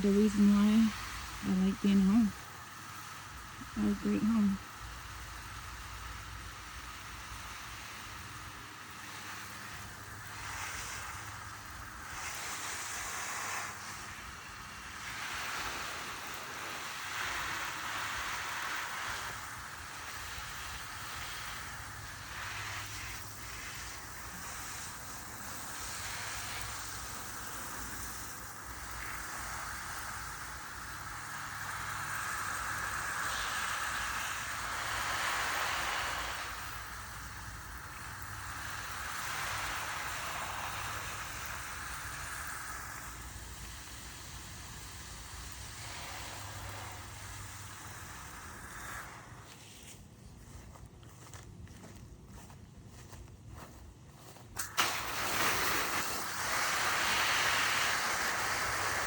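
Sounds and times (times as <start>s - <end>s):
garden hose spraying water: 0.0s - 59.0s.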